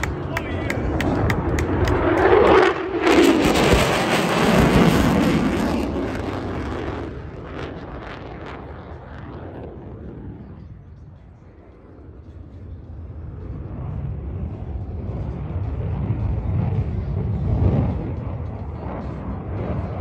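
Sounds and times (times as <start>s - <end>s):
fighter jet passing overhead: 0.0s - 20.0s.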